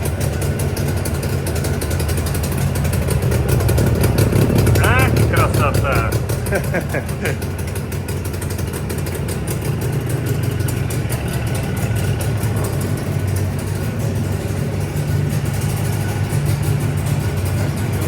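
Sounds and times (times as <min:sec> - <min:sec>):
two-stroke engine idling: 0:00.0 - 0:18.0.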